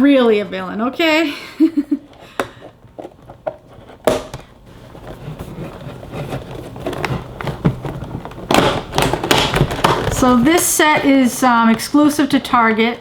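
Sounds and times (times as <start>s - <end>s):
cardboard and plastic crackling: 2.2s - 13.0s.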